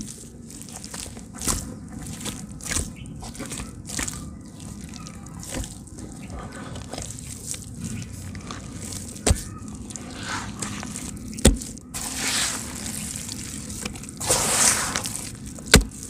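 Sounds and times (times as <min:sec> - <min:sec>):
hands squelching wet clay: 0:00.0 - 0:16.0.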